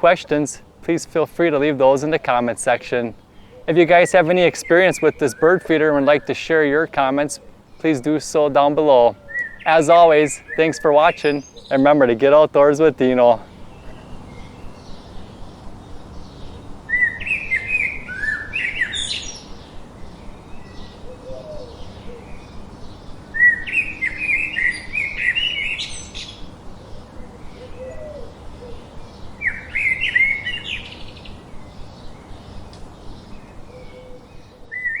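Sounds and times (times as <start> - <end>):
faint bird chirping: 0.0 - 35.0
songbird warbling: 0.0 - 35.0.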